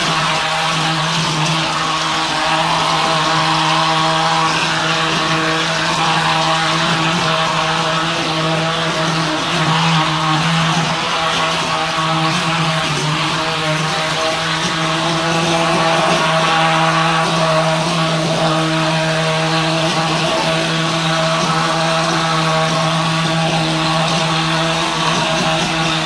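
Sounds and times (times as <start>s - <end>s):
plaster spray hissing: 0.0s - 26.0s
plaster spraying machine hum: 0.0s - 26.0s.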